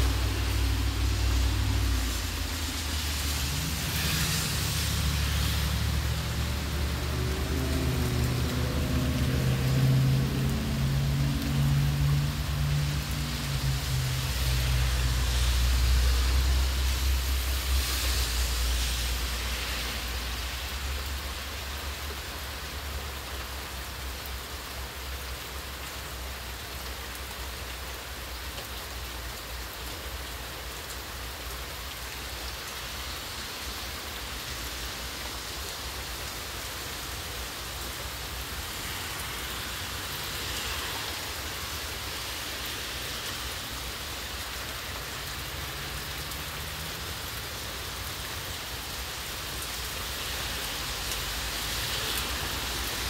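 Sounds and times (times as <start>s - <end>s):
rain falling on pavement: 0.0s - 53.0s.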